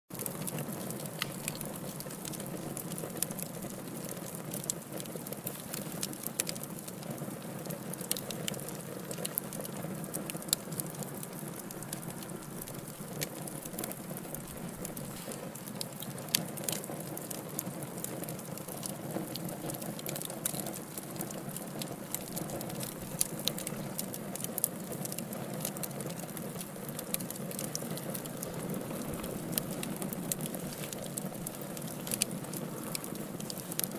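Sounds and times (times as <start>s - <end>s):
fire crackling in fireplace: 0.1s - 33.9s.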